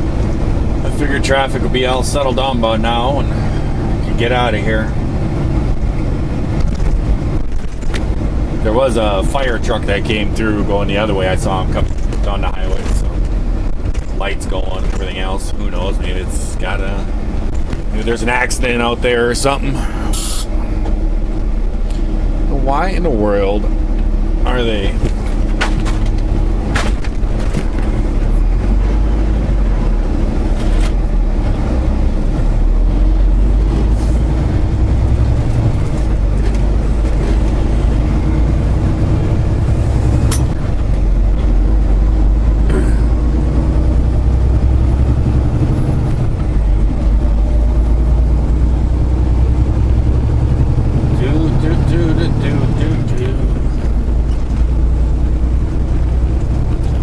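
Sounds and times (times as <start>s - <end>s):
diesel truck engine drone: 0.0s - 57.0s.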